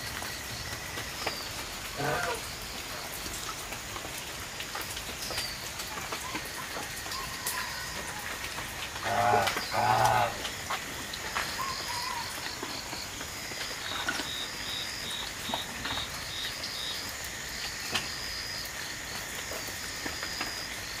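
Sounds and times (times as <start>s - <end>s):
insects chirping: 0.0s - 21.0s
water dripping: 0.0s - 21.0s.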